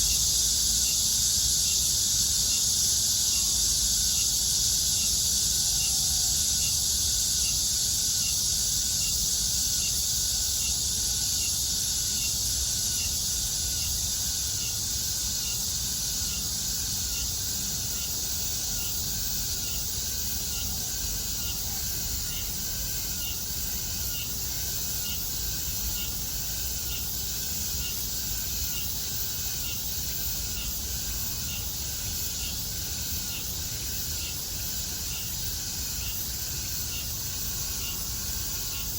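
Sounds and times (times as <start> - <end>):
cicadas droning: 0.0 - 38.9
pulsing insect call: 0.0 - 38.9.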